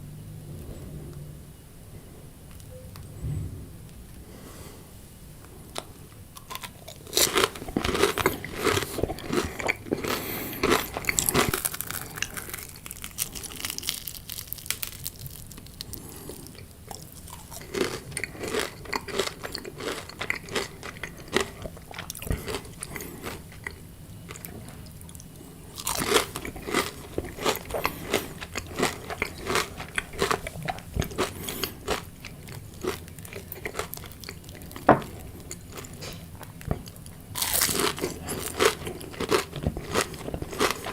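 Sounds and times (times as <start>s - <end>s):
chewing crunchy fried food: 5.7s - 40.9s.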